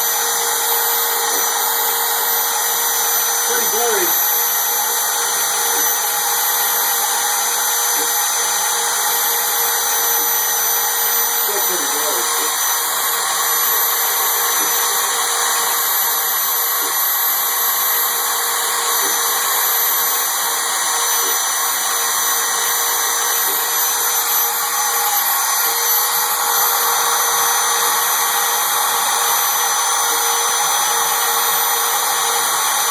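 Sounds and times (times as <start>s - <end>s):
cnc router spindle whining: 0.0s - 32.9s
router bit cutting hiss: 0.0s - 32.9s.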